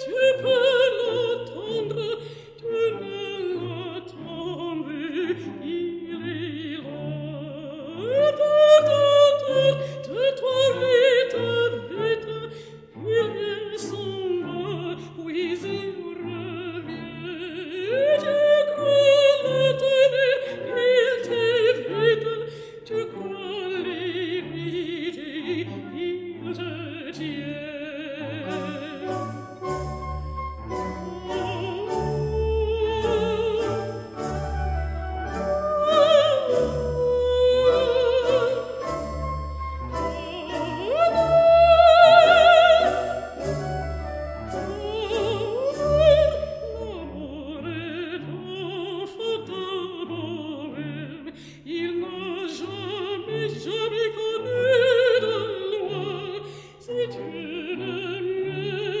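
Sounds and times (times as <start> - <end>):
orchestral strings: 0.0 - 59.0.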